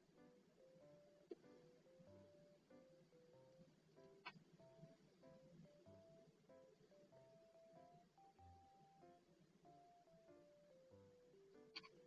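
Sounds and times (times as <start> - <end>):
simple melody of held notes: 0.0 - 12.0.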